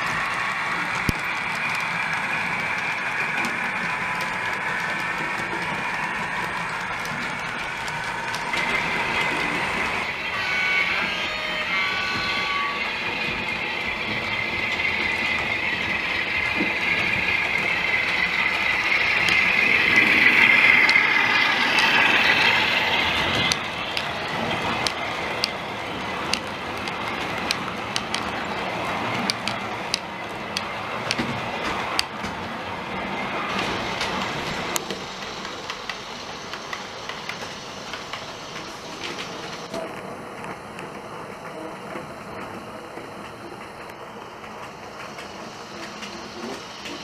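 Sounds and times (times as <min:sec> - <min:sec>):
model train wheels rumbling: 0:00.0 - 0:47.0
wagons rolling over track: 0:00.0 - 0:47.0
wheels clicking over rail joints: 0:00.0 - 0:47.0.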